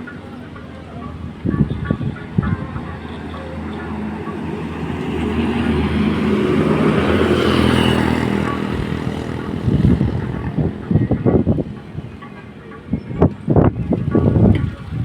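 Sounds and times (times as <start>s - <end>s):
wind gusts on microphone: 0.9s - 15.0s
motor vehicle passing by: 1.0s - 15.0s.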